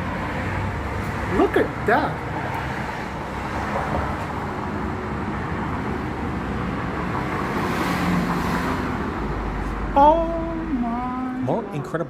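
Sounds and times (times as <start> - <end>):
road traffic noise: 0.0 - 12.0
vehicle passing by: 0.0 - 12.0.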